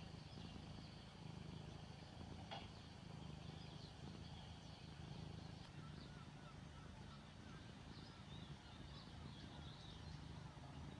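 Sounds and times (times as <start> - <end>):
cat purring: 0.0 - 10.9.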